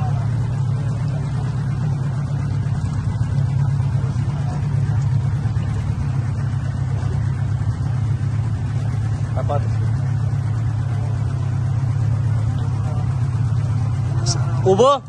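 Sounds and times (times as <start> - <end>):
outboard motor droning: 0.0 - 15.0.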